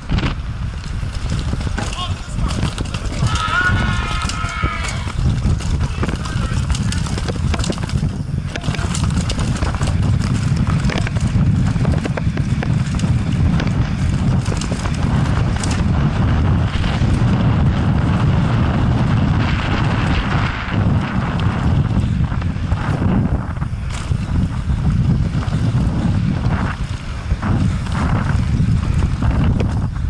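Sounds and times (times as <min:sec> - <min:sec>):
bike tyres clattering on rocks: 0:00.0 - 0:30.0
heavy wind rumble on microphone: 0:00.0 - 0:30.0.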